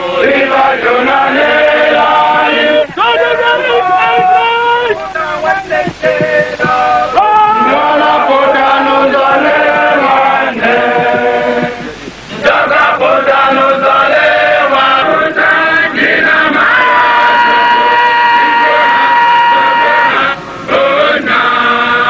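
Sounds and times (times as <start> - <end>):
group singing a chant: 0.0 - 4.3, 4.9 - 22.0.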